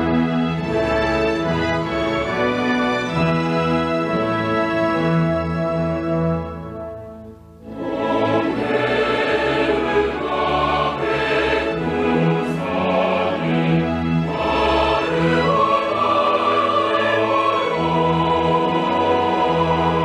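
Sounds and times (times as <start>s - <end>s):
choir and orchestra music: 0.0s - 20.0s.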